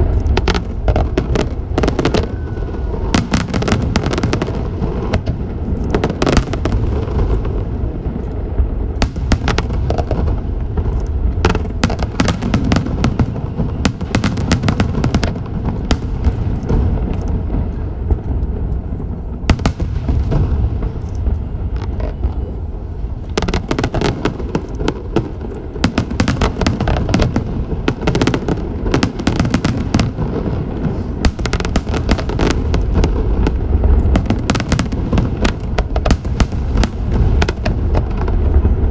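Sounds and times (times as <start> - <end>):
fireworks bangs and crackles: 0.0 - 38.9
fireworks booming: 0.0 - 38.9.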